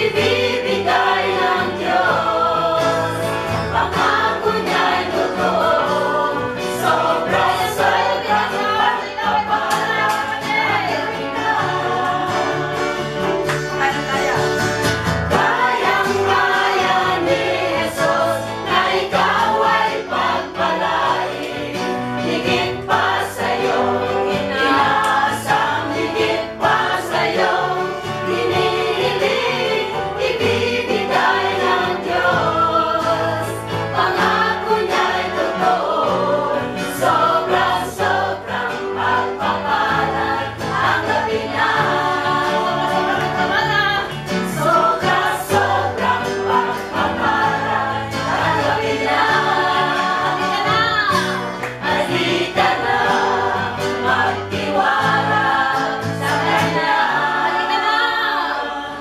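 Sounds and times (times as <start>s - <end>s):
gospel choir singing: 0.0s - 59.0s
instrumental backing: 0.0s - 59.0s.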